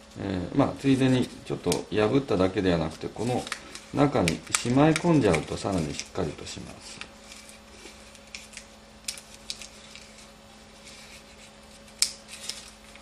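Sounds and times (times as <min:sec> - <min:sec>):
paper rustling and crinkling: 0:00.8 - 0:01.4, 0:02.8 - 0:13.0.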